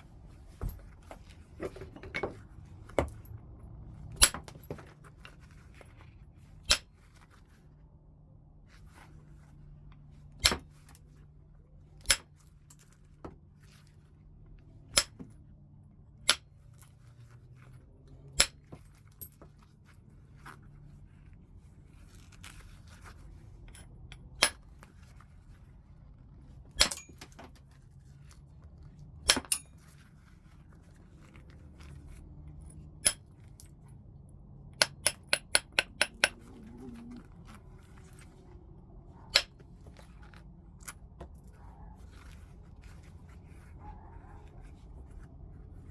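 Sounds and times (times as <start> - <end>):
faint low hum: 0.0 - 45.9.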